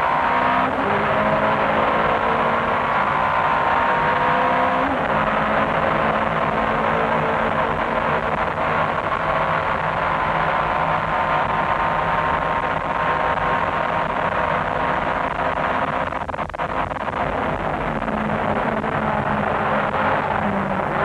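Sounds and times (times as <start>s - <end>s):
race car engine at high speed: 0.0s - 21.0s
wind and tyre noise: 0.0s - 21.0s.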